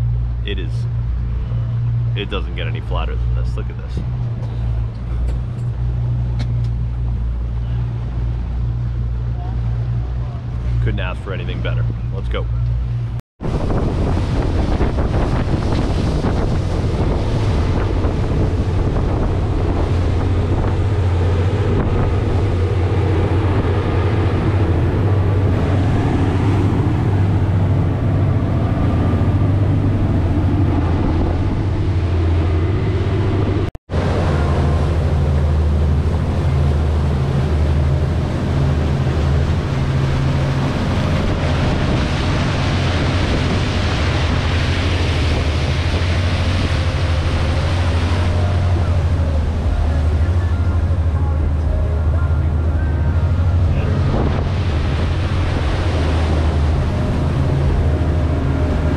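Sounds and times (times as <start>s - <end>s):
outboard motors running: 0.0s - 58.9s
wake rushing: 0.0s - 58.9s
wind buffeting microphone: 0.0s - 58.9s.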